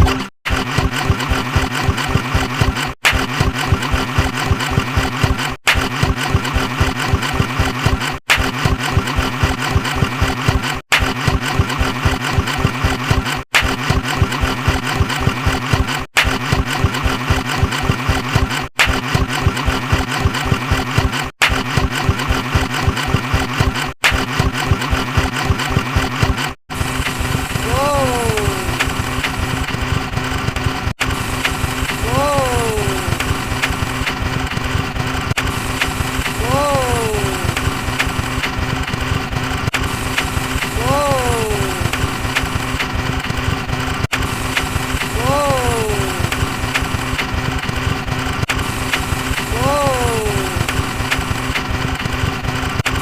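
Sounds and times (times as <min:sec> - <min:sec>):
engine with rapid low pulsing: 0:00.0 - 0:53.0.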